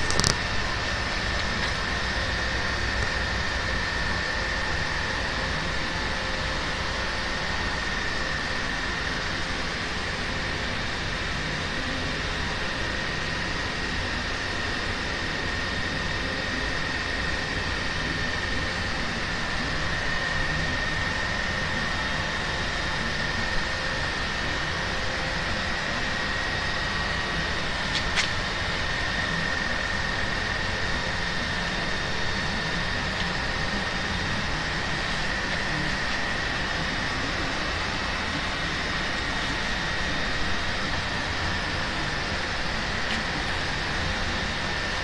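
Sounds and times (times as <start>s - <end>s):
high-pitched whine: 0.0s - 45.0s
steady droning noise: 0.0s - 45.0s.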